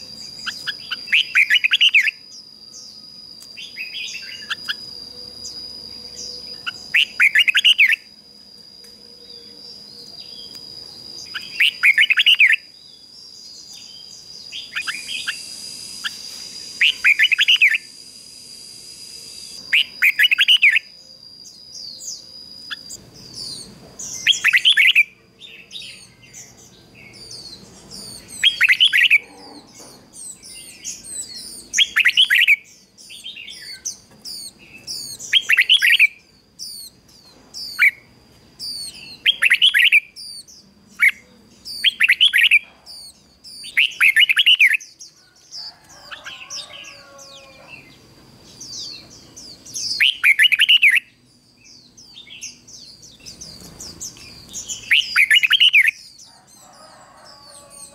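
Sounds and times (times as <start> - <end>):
bird warbling song: 0.0 - 8.1, 8.8 - 18.0, 19.1 - 57.9
high bird chirps: 0.0 - 8.2, 8.8 - 47.9, 48.5 - 57.9.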